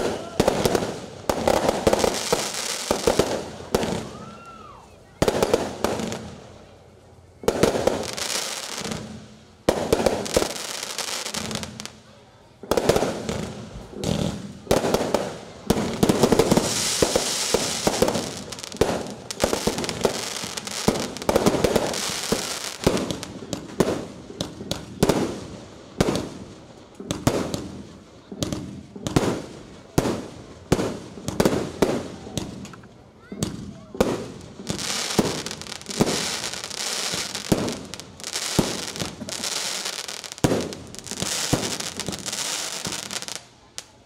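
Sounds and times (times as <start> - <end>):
aerial fireworks bursting: 0.0 - 6.8, 7.4 - 44.0
rapid barrage of fireworks: 0.0 - 44.0.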